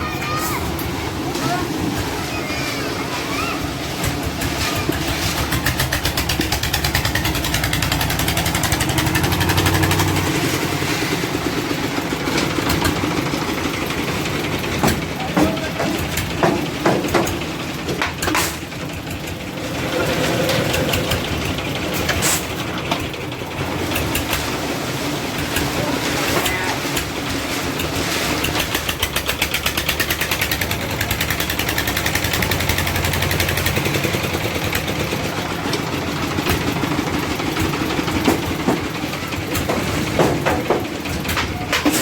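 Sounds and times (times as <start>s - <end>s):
concrete mixer engine hum: 0.0s - 42.0s
mixer drum rattling: 0.0s - 42.0s.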